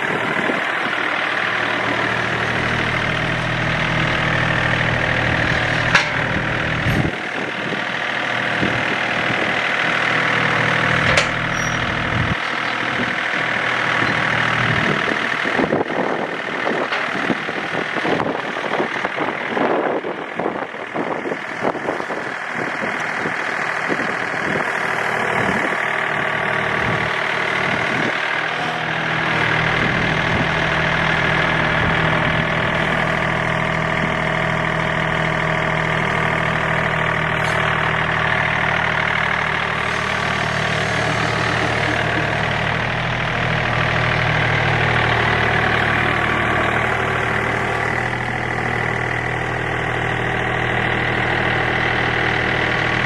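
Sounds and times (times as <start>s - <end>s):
diesel tractor engine running: 0.0s - 53.0s.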